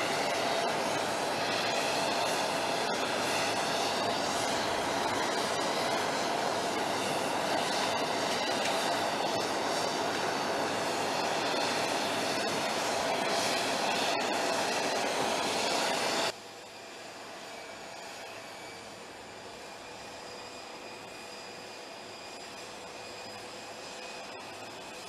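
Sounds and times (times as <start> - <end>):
jet engines whining: 0.0 - 25.0.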